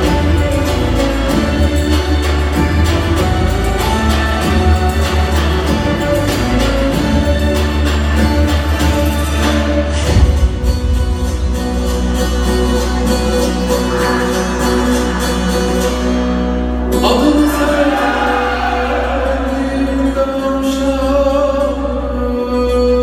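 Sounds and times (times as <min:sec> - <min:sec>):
folk dance music with singing: 0:00.0 - 0:23.0.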